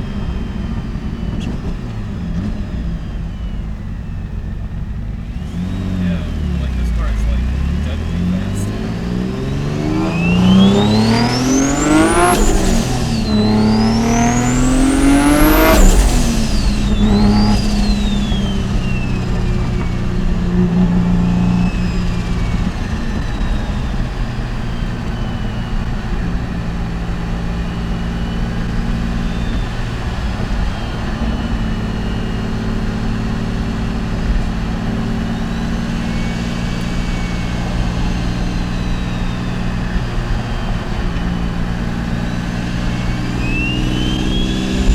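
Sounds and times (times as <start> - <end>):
car engine accelerating: 0.0 - 44.9
turbo whine: 0.0 - 44.9.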